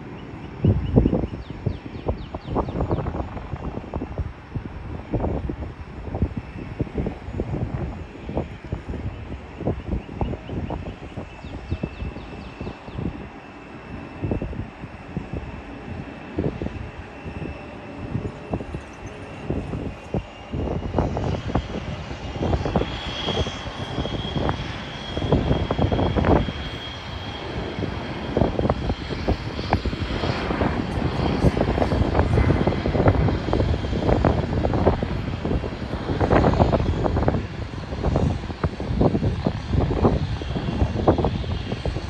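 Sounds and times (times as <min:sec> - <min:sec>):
jet engines of passing plane: 0:00.0 - 0:42.0
wind buffeting microphone: 0:00.0 - 0:42.0.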